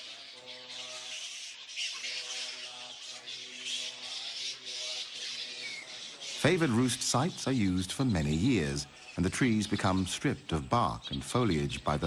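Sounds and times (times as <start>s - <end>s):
flying foxes chattering: 0.0s - 12.0s.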